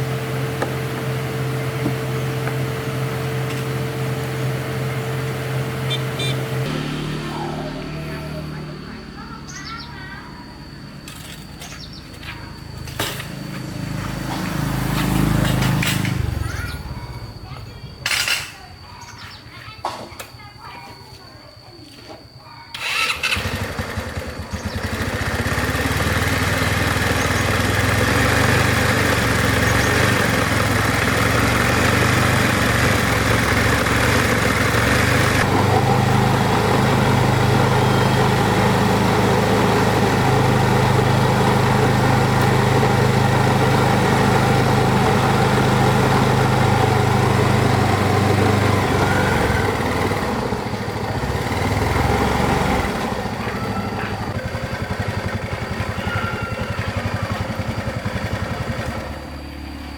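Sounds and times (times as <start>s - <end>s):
motorcycle engine starting and running: 0.0s - 20.5s, 22.3s - 59.9s.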